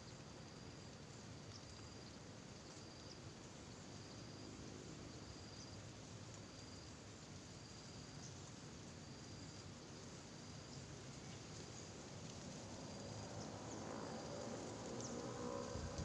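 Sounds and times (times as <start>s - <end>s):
faint steady hiss: 0.0s - 16.0s
insect high chirp: 0.0s - 16.0s.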